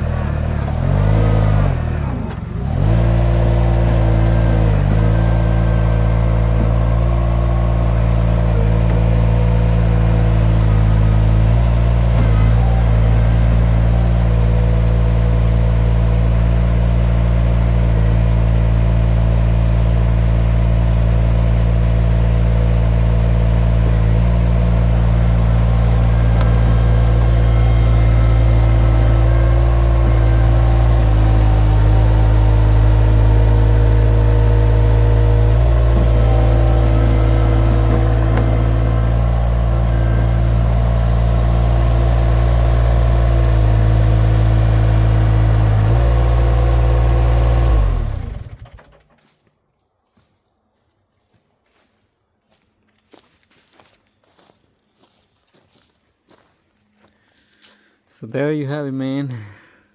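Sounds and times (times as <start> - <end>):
skid steer engine at high throttle: 0.0 - 49.3.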